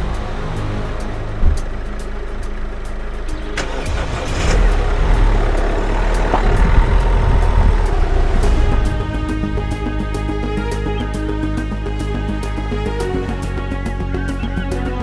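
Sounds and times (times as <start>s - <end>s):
car engine running: 0.0s - 14.8s
car engine starting: 0.0s - 15.0s
music with ticking beat: 0.0s - 15.0s.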